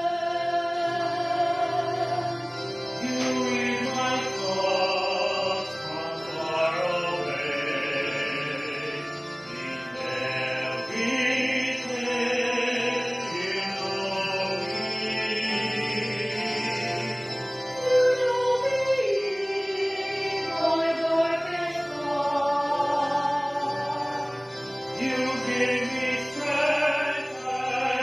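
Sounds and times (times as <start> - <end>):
sustained accompaniment: 0.0 - 28.0.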